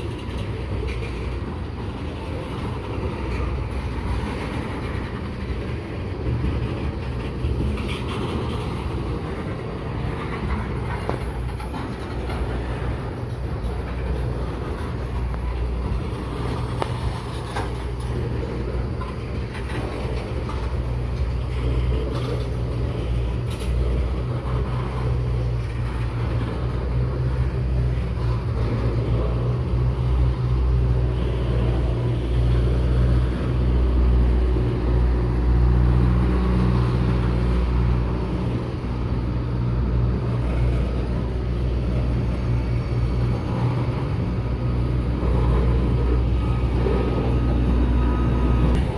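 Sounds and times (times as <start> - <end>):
diesel locomotive engine running: 0.0 - 48.9.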